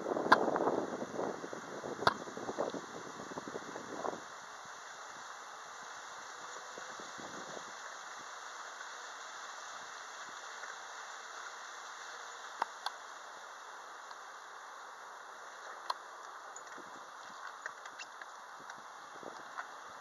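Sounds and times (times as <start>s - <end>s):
soft outdoor hiss: 0.0s - 20.0s.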